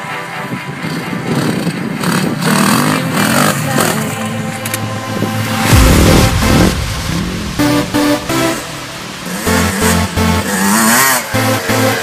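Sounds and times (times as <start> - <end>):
music playing: 0.0 - 12.0
dirt bike engine revving: 1.3 - 6.6, 7.5 - 12.0.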